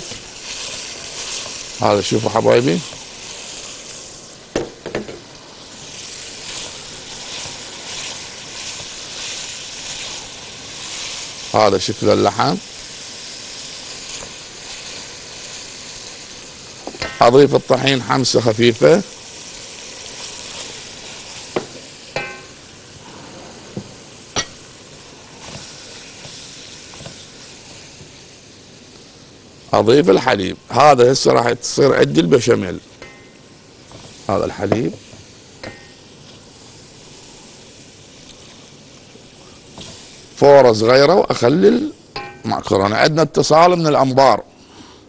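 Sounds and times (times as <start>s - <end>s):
meat sizzling in a pan: 0.0s - 44.2s.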